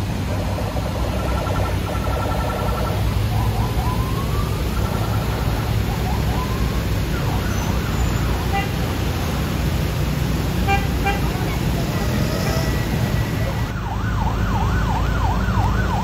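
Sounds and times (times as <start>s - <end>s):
truck diesel engine labouring: 0.0s - 16.0s.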